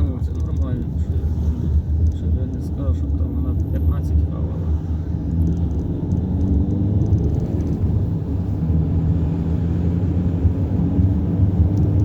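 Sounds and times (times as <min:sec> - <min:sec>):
car engine hum inside cabin: 0:00.0 - 0:12.0.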